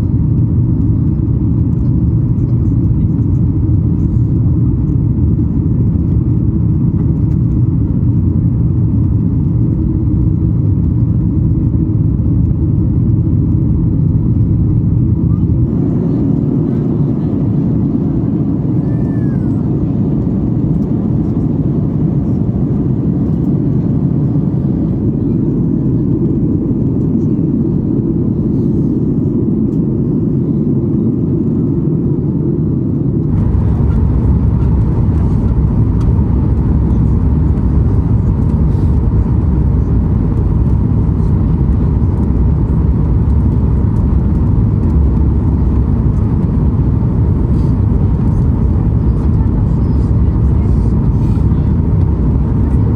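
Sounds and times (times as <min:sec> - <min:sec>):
jet engine cabin noise: 0:00.0 - 0:52.9.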